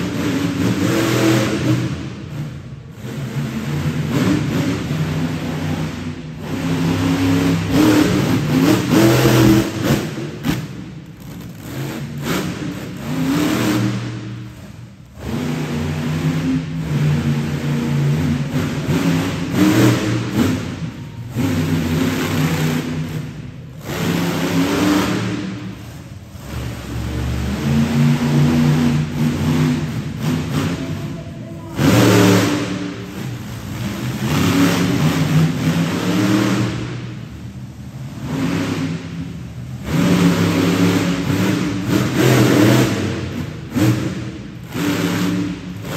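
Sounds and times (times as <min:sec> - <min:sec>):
truck engine revving hard: 0:00.0 - 0:45.9.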